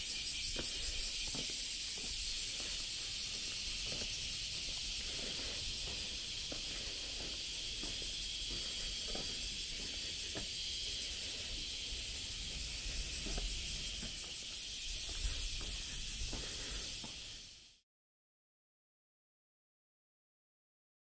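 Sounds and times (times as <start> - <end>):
cicadas droning: 0.0 - 17.8
footsteps on stone paving: 0.1 - 17.4.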